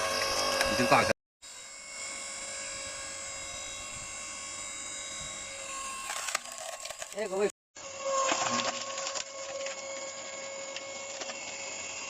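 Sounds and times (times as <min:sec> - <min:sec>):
hydraulic motor whining: 0:00.0 - 0:12.0.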